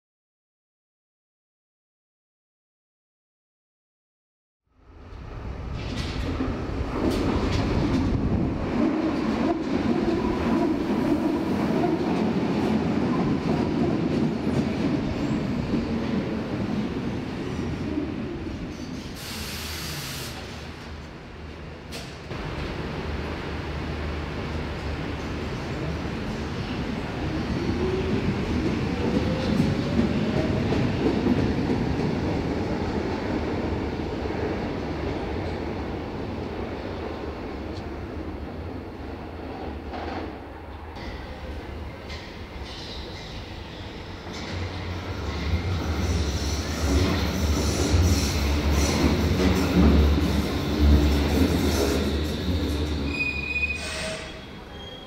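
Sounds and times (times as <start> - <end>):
train wheels rumbling on rail: 5.0 - 55.0.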